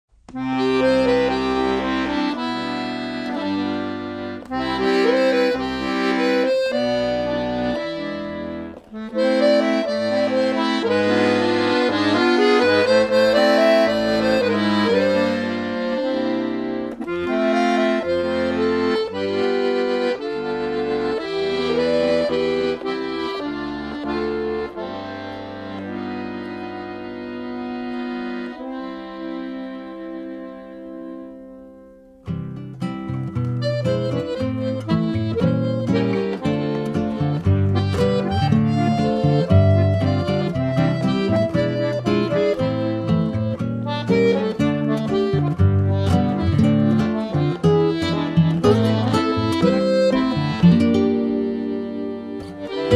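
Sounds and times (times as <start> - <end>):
accordion music: 0.3 - 52.9.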